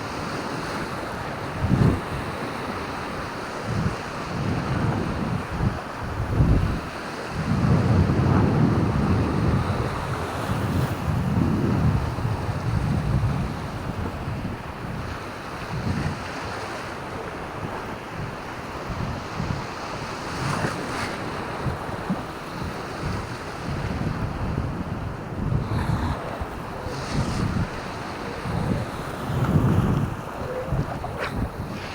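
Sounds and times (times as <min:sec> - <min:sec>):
surf washing: 0:00.0 - 0:31.9
wind buffeting microphone: 0:00.0 - 0:31.9.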